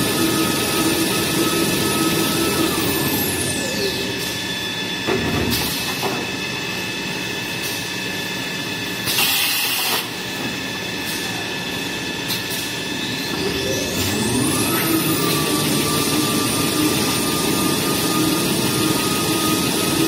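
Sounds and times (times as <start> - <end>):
machine whining: 0.0 - 9.2, 10.3 - 20.0.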